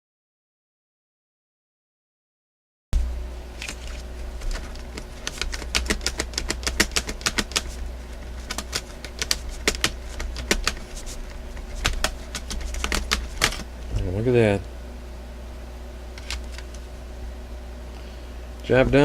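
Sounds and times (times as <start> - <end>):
steady low hum: 3.0 - 19.0.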